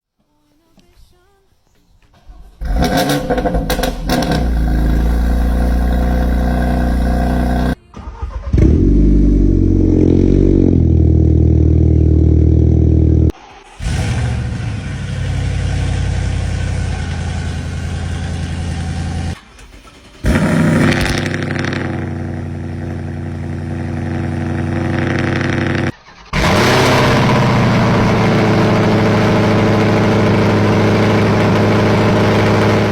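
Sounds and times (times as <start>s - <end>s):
car engines revving: 2.6s - 7.8s, 8.5s - 32.9s.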